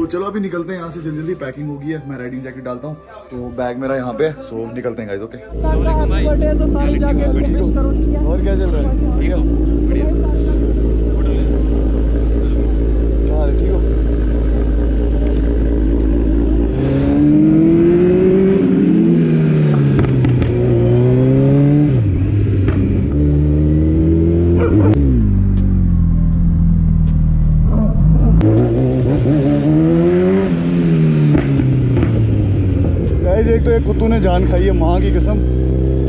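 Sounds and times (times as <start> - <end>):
motorcycle engine revving: 5.5 - 36.0.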